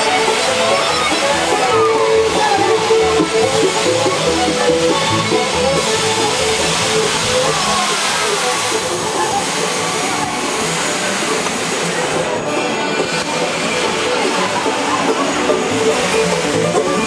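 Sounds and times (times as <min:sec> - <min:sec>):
background music: 0:00.0 - 0:17.0
spinning ride rushing noise: 0:00.0 - 0:17.0.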